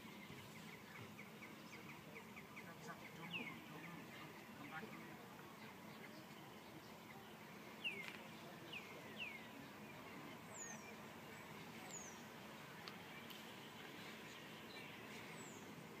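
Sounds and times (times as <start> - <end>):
low steady background hiss: 0.0 - 16.0
small birds chirping: 0.0 - 16.0.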